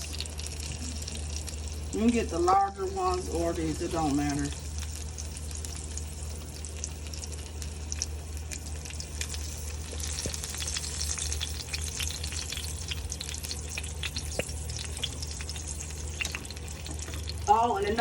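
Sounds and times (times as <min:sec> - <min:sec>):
oil sizzling in a skillet: 0:00.0 - 0:18.0.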